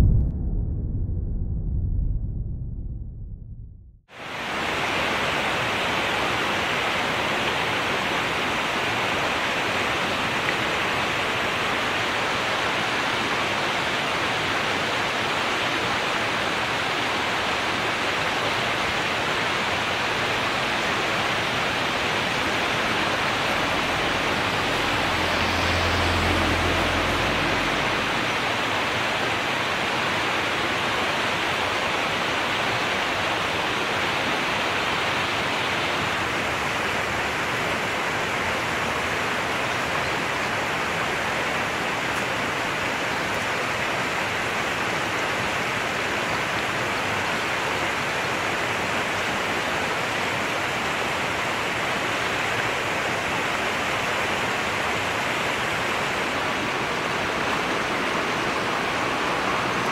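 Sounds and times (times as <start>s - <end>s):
river water rushing: 4.2s - 59.9s.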